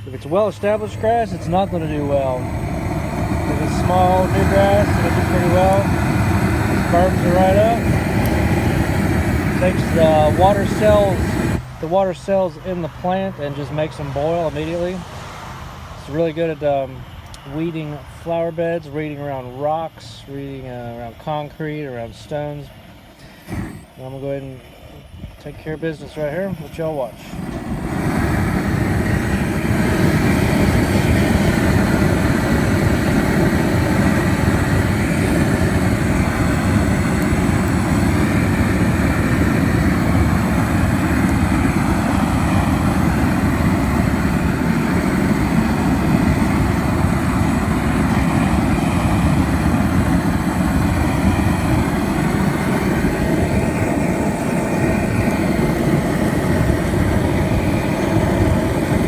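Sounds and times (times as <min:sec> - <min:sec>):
propane torch flame rushing: 0:00.0 - 0:12.6, 0:13.7 - 0:59.0.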